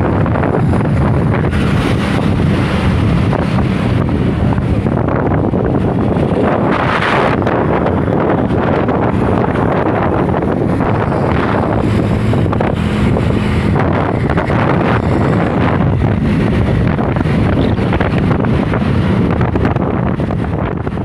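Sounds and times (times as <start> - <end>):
low engine drone: 0.0 - 21.0
wind buffeting microphone: 0.0 - 21.0.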